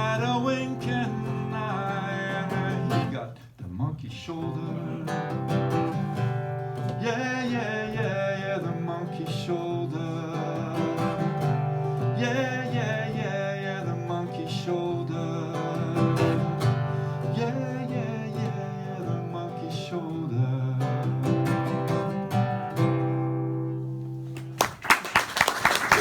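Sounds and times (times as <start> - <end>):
acoustic guitar strumming: 0.0 - 24.6.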